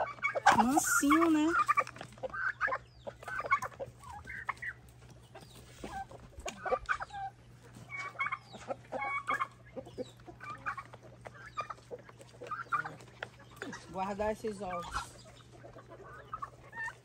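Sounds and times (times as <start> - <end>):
chickens clucking: 0.0 - 17.0
low steady hum: 0.0 - 17.0.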